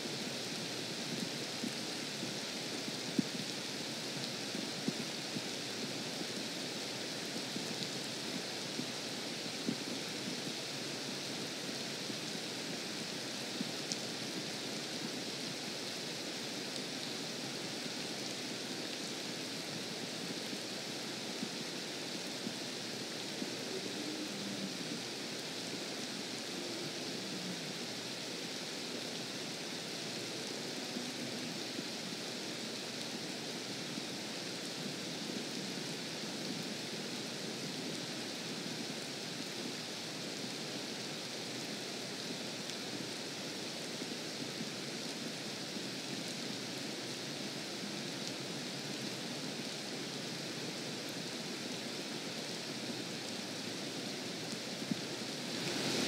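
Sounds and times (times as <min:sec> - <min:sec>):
rain falling on a pond: 0:00.0 - 0:56.0.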